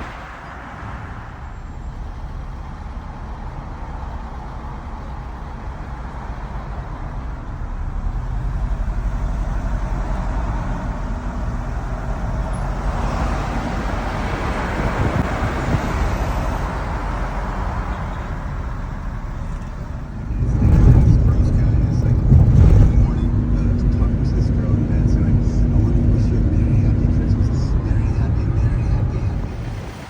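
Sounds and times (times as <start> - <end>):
car engine driving: 0.0 - 30.0
road noise: 0.0 - 30.0.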